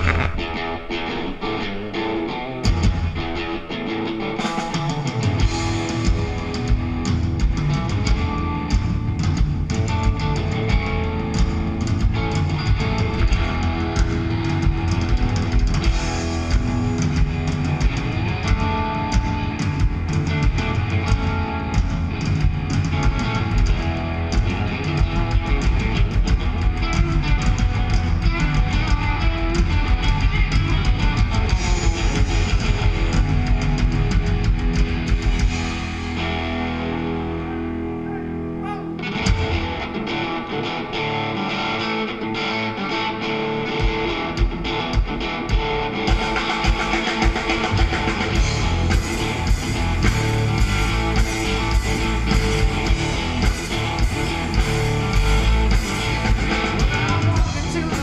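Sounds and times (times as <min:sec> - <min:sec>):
drum kit: 0:00.0 - 0:01.7, 0:02.6 - 0:03.5, 0:04.4 - 0:40.2, 0:43.7 - 0:58.0
bass guitar: 0:00.0 - 0:58.0
guitar playing: 0:00.0 - 0:58.0.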